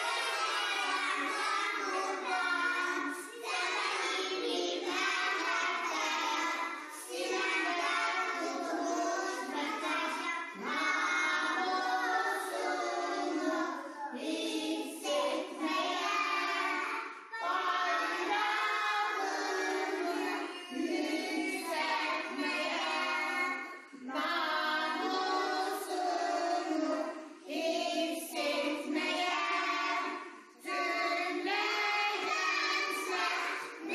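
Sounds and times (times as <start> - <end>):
children singing together: 0.0 - 33.9.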